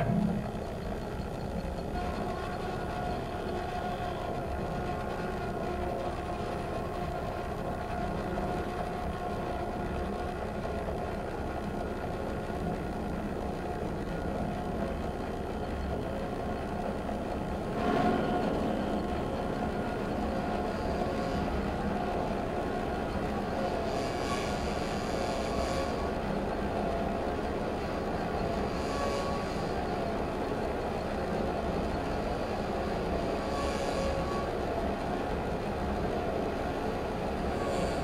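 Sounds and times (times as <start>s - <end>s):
electroacoustic drone with held tones: 0.0s - 38.0s.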